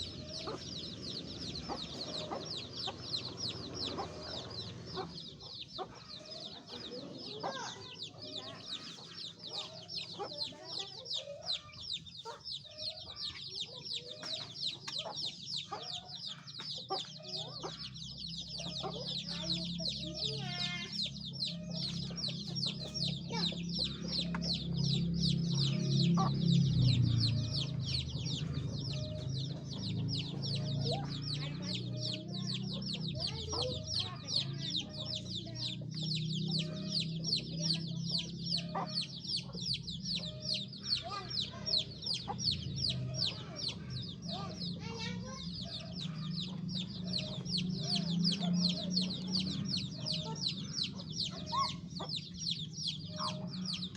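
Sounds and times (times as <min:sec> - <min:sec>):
chicks peeping: 0:00.0 - 0:53.9
hen clucking: 0:00.0 - 0:53.9.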